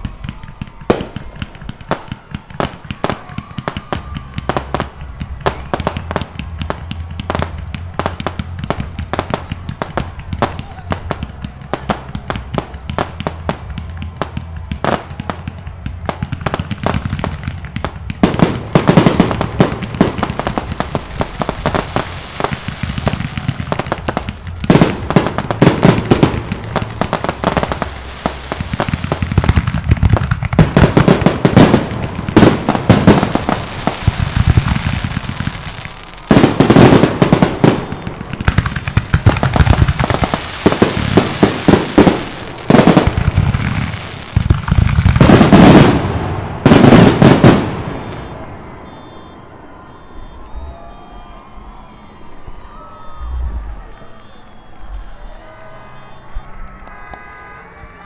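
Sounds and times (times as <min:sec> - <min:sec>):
fireworks bangs and crackling pops: 0:00.0 - 0:51.8.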